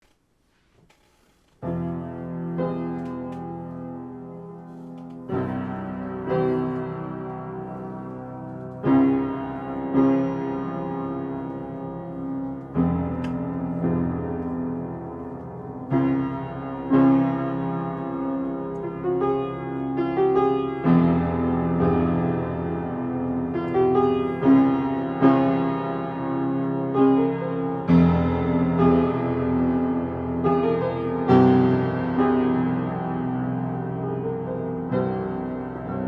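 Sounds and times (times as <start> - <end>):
piano chords and melody: 1.6 - 36.0.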